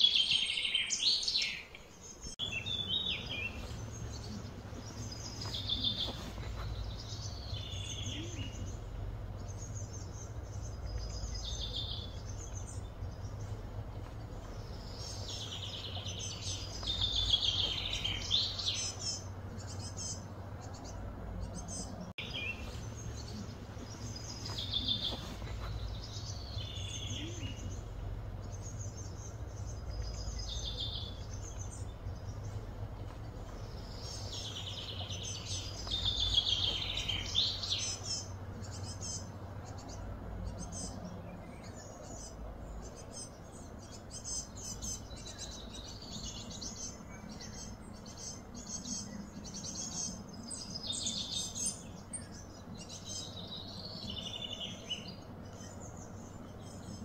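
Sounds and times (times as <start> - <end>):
birds singing and chirping: 0.0 - 57.0
low background rumble: 0.0 - 57.0.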